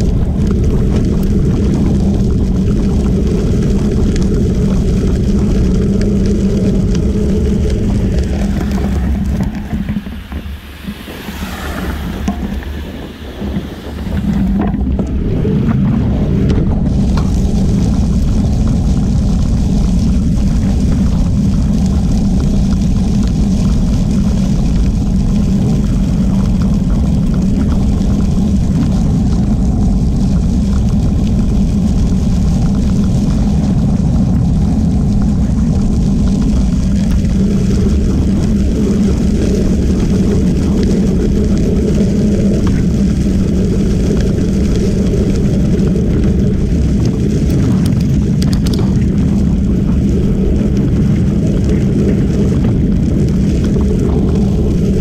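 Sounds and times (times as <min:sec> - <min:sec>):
tyres rolling on gravel: 0:00.0 - 0:55.0
wind on microphone: 0:00.0 - 0:55.0.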